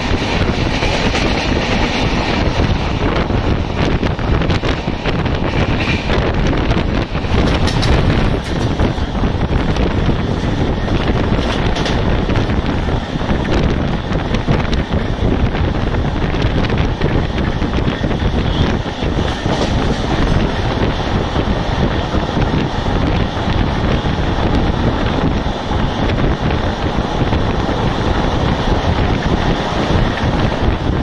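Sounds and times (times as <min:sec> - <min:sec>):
train wheels running on rails: 0:00.0 - 0:31.0
wind buffeting microphone: 0:00.0 - 0:31.0.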